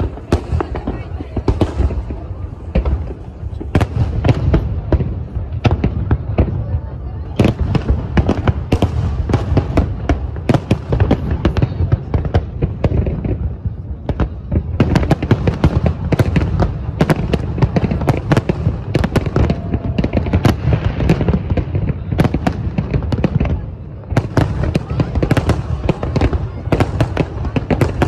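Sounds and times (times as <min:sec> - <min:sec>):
firework shell bursts and crackles: 0:00.0 - 0:28.0.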